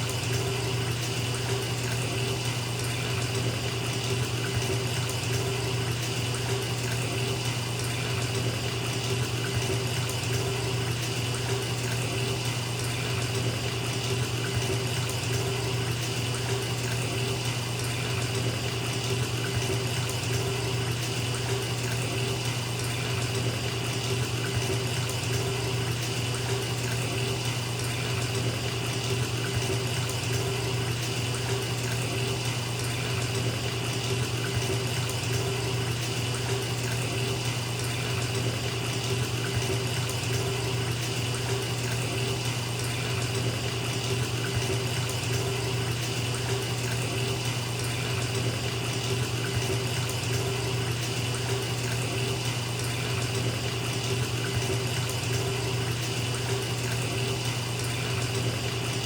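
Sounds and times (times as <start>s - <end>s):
water pouring into bathtub: 0.0s - 59.0s.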